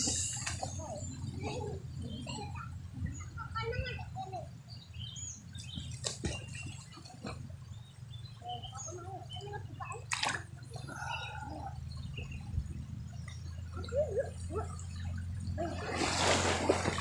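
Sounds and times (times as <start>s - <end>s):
water gurgling and lapping: 0.0s - 3.9s, 5.4s - 17.0s
river rumbling: 0.0s - 17.0s.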